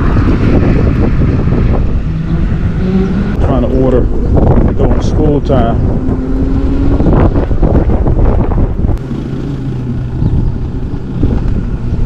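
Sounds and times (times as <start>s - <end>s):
low vehicle rumble: 0.0s - 12.0s
wind buffeting microphone: 0.0s - 12.0s.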